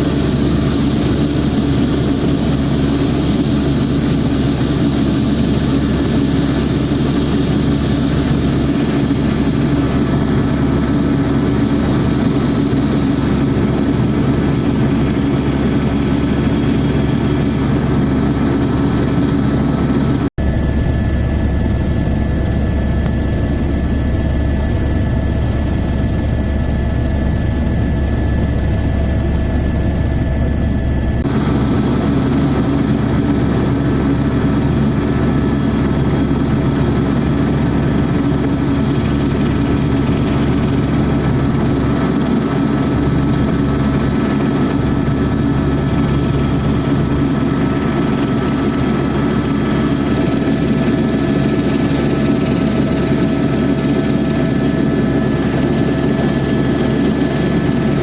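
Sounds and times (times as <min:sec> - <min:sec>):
helicopter engine and rotor noise: 0:00.0 - 0:58.0.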